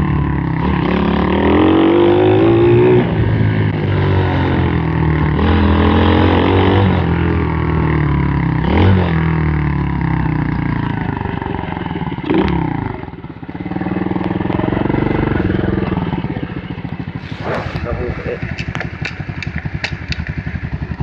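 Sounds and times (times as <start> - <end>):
pit bike engine revving: 0.0 - 21.0.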